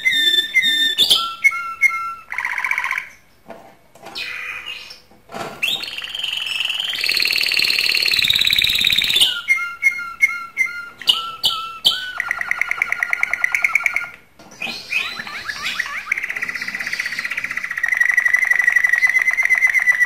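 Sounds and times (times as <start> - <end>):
canary singing trills: 0.0 - 3.3, 4.2 - 20.0.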